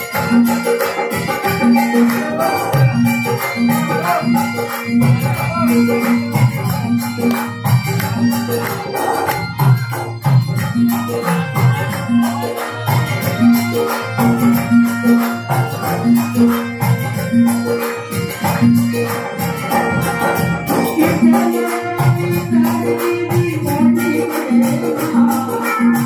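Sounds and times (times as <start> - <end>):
harmonium: 0.0 - 26.0
jingling hand percussion: 0.0 - 26.0
keyboard melody notes: 0.0 - 26.0.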